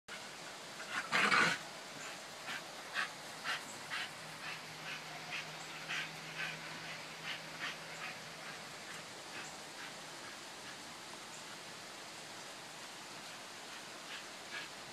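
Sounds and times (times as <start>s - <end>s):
rain hiss: 0.1s - 14.9s
dog panting: 0.8s - 11.6s, 13.2s - 14.9s.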